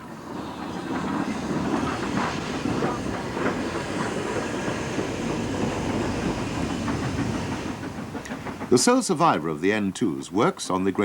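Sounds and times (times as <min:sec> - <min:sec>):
steam locomotive chugging: 0:00.0 - 0:11.0
wheels on rail joints: 0:00.0 - 0:11.0.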